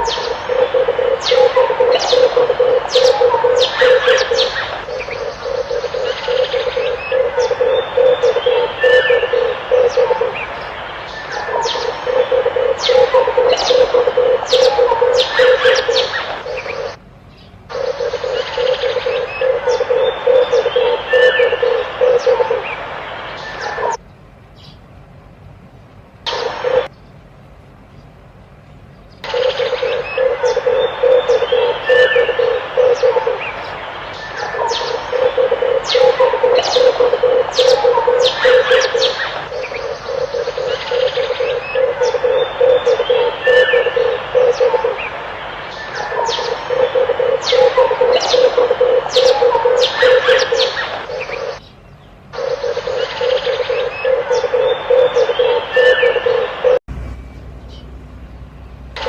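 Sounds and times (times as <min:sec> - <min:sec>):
doves cooing: 0:00.0 - 0:17.0, 0:17.7 - 0:24.0, 0:26.3 - 0:26.9, 0:29.3 - 0:51.6, 0:52.3 - 0:56.8
small birds chirping: 0:00.0 - 0:25.0, 0:26.2 - 0:59.0.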